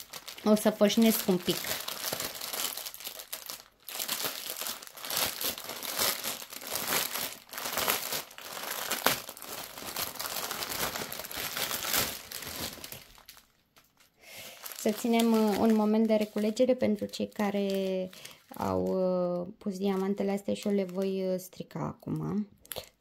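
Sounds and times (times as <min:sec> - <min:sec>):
plastic bags crinkling: 0:00.0 - 0:21.4.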